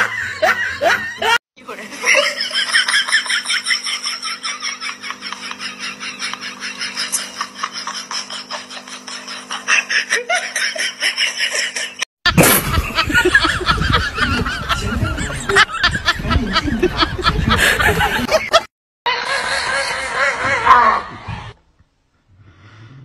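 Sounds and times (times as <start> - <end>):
steady low hum: 0.0 - 18.6
person snickering laughter: 0.0 - 20.9.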